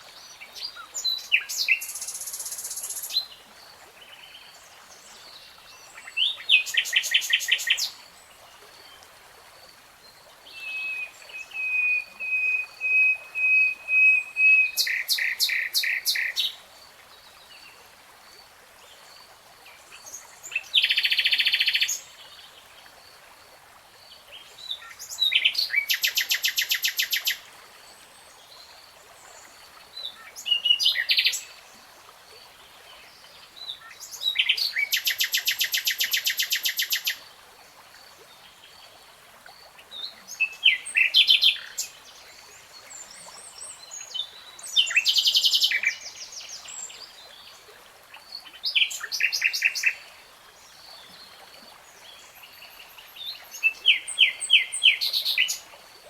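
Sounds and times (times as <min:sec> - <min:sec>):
faint steady hiss: 0:00.0 - 0:56.0.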